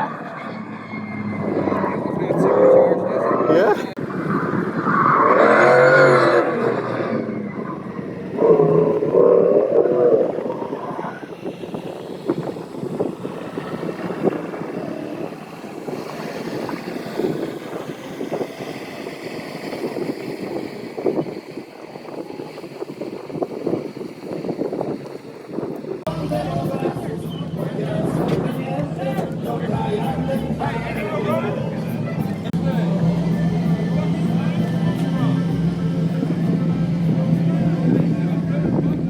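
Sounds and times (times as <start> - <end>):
vehicle engine rumble: 0.0 - 39.0.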